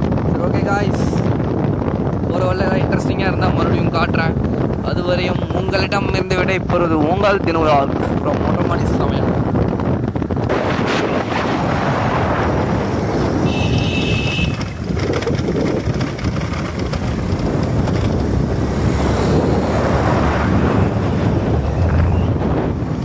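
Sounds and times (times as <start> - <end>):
vehicle rumbling on road: 0.0 - 23.0
wind buffeting microphone: 0.0 - 23.0.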